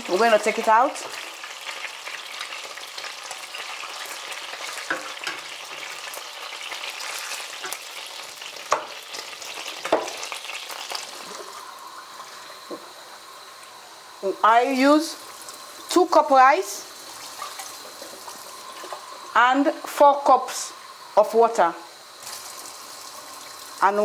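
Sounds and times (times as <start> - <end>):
chicken frying in oil: 0.0 - 24.0.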